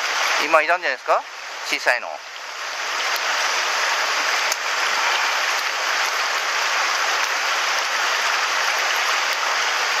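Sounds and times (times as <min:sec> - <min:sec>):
stream running over stones: 0:00.0 - 0:10.0.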